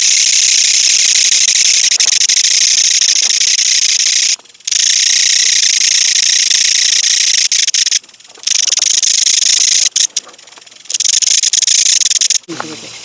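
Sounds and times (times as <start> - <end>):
katydid shrill raspy buzz: 0.0 - 12.5.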